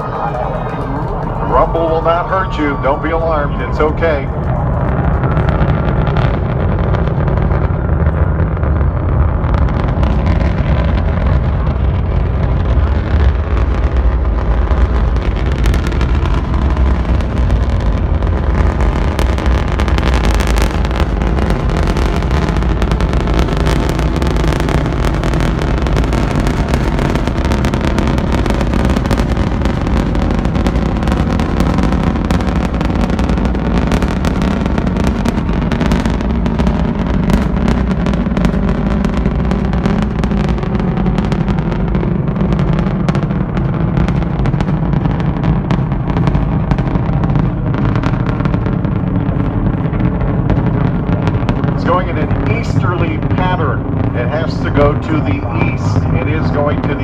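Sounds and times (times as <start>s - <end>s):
distant rocket engine rumble: 0.0s - 57.0s
sharp rocket crackle: 0.0s - 57.0s.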